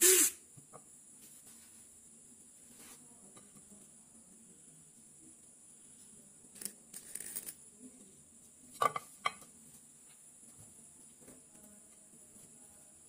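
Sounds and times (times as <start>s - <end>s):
faint high hiss: 0.0s - 13.0s.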